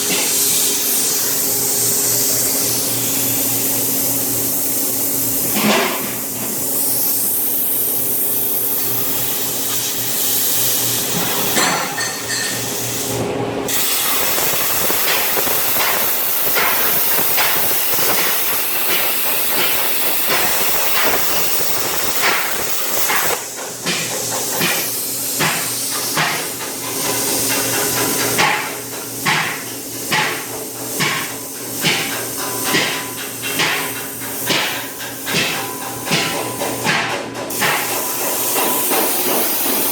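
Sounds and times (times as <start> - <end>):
plasma cutter hissing: 0.0 - 39.9.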